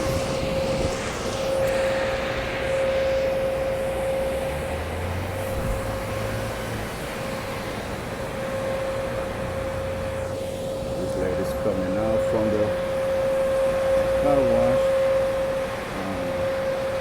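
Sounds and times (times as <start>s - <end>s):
low engine rumble: 0.0s - 16.7s
mechanical hum with whine: 0.0s - 17.0s.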